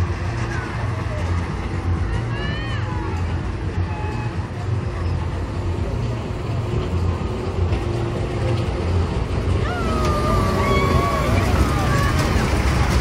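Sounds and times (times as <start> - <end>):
small train rumbling on track: 0.0 - 13.0.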